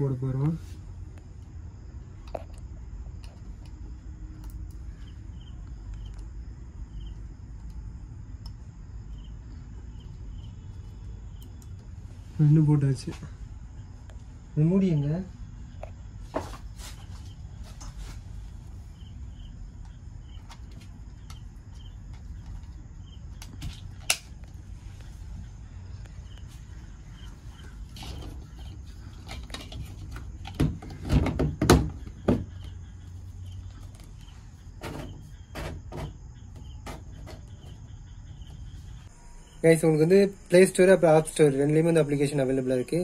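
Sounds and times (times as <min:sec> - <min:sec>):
insect chirping: 0:00.0 - 0:43.0
low steady hum: 0:00.0 - 0:43.0.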